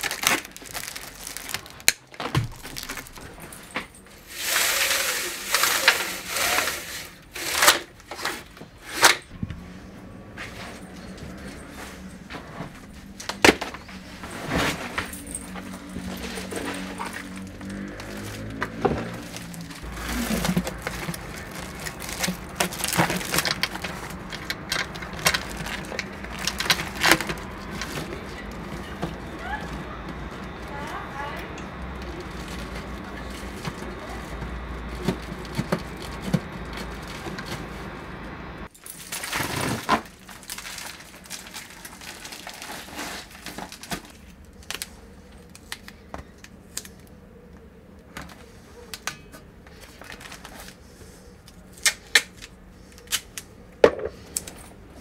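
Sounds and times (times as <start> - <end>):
foil ducting rustling and crinkling: 0.0 - 9.2, 10.4 - 47.2, 49.7 - 53.4.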